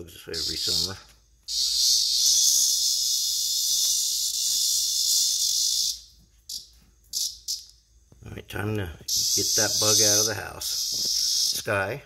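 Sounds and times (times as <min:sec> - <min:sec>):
cicada buzzing: 0:00.0 - 0:12.0.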